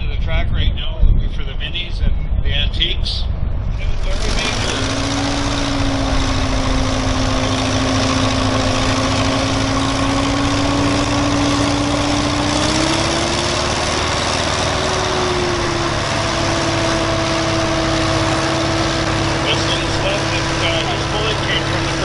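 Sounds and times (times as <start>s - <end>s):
tractor engine running: 3.7s - 22.0s.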